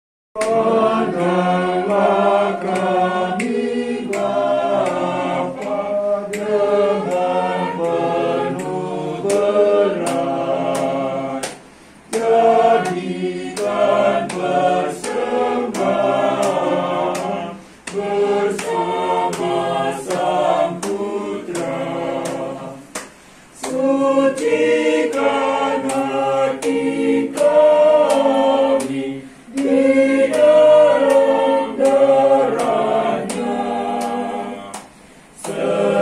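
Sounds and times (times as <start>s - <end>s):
choir singing: 0.4s - 36.0s.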